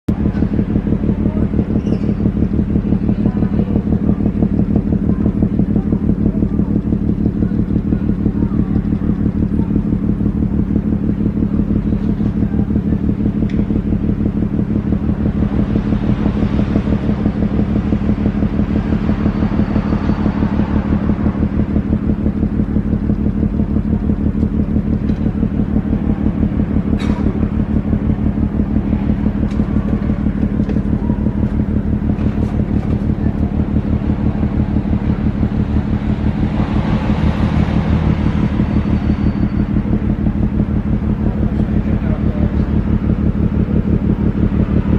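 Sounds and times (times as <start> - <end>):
ship diesel engines throbbing: 0.1 - 44.9.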